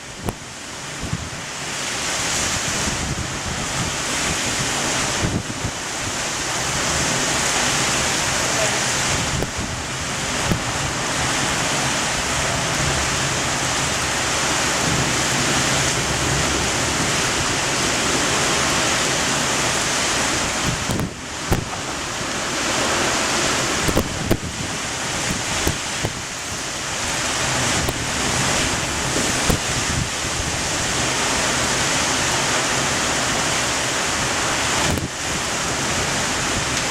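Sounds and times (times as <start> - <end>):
heavy rain: 0.0 - 36.9
strong wind: 0.0 - 36.9.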